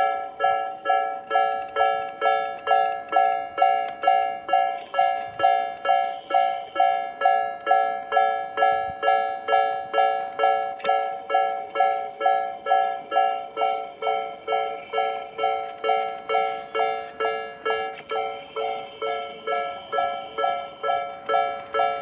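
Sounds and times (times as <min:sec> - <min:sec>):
level-crossing warning bell: 0:00.0 - 0:22.0.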